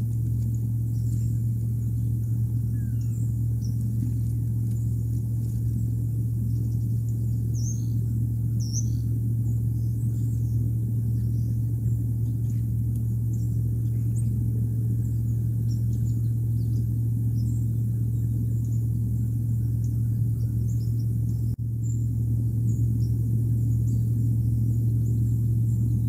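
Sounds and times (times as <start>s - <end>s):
faint high bird chirps: 0.0s - 26.0s
steady low hum: 0.0s - 26.0s.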